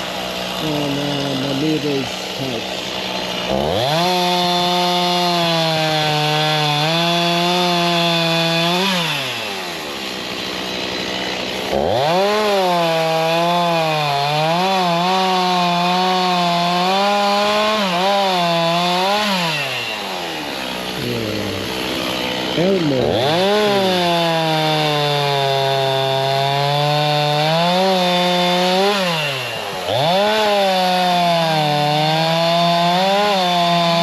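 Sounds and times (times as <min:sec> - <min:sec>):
chainsaw cutting branches: 0:00.0 - 0:34.0.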